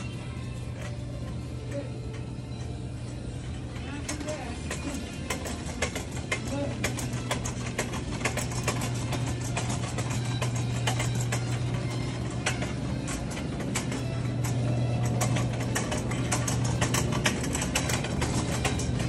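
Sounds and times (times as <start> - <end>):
shopping cart wheels rumbling: 0.0 - 19.0
wire basket rattling: 3.7 - 19.0.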